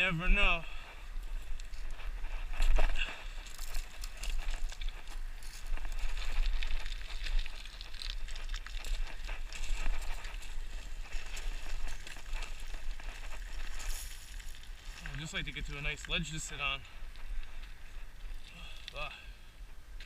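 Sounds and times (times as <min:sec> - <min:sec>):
footsteps crunching on gravel: 0:00.0 - 0:18.8.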